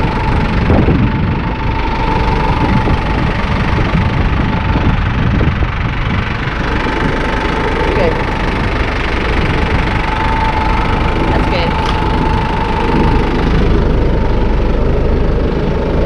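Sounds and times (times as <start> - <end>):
faint high whine: 0.0 - 16.0
vehicle engine rumbling: 0.0 - 16.0.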